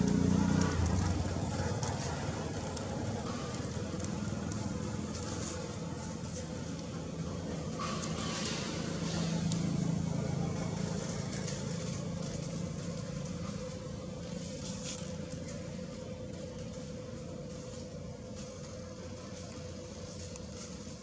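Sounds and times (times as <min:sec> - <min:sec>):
motor vehicle engine hum: 0:00.0 - 0:21.0.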